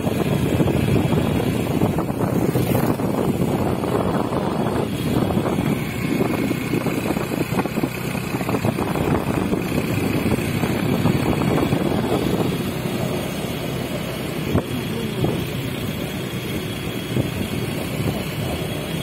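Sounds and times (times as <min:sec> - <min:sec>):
motor scooter running: 0:00.0 - 0:19.0
wind buffeting microphone: 0:00.0 - 0:19.0.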